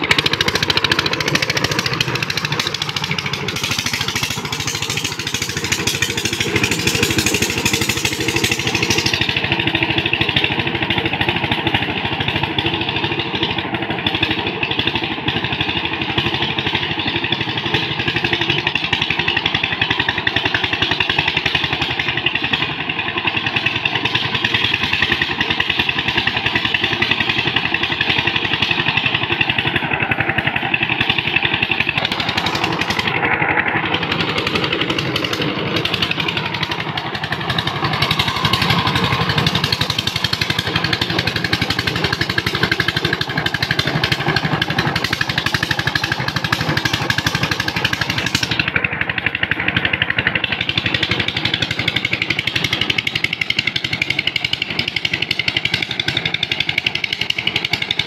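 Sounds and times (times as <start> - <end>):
diesel engine putter: 0.0 - 58.0.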